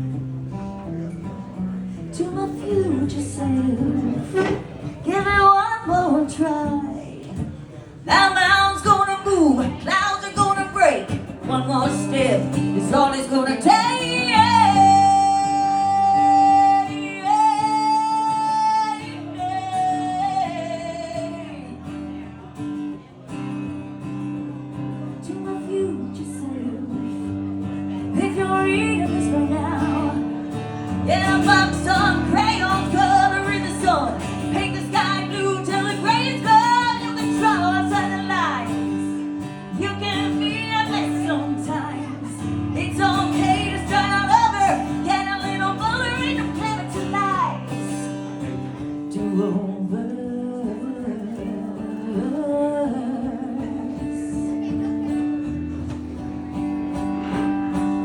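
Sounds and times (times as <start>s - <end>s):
strummed guitar: 0.0s - 58.0s
woman singing: 2.1s - 7.4s, 8.0s - 21.9s, 25.1s - 54.8s.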